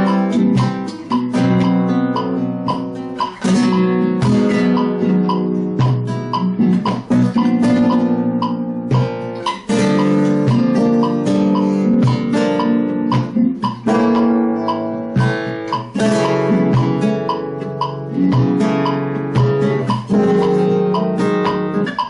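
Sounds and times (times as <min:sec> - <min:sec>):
flamenco guitar strumming: 0:00.0 - 0:22.0.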